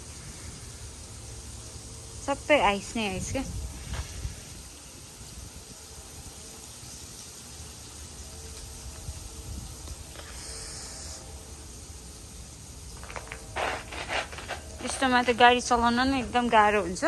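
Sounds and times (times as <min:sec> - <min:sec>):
freezing rain and sleet falling: 0:00.0 - 0:17.0.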